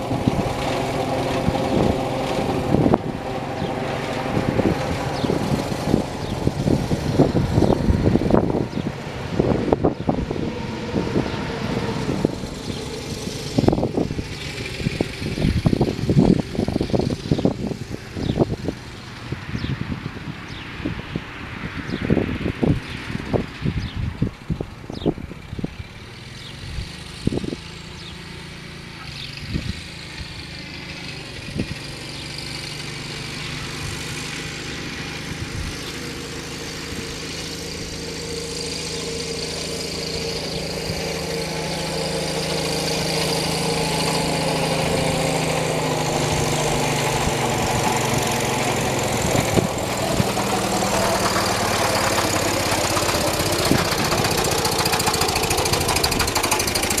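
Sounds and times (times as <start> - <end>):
tractor engine at full throttle: 0.0 - 57.0.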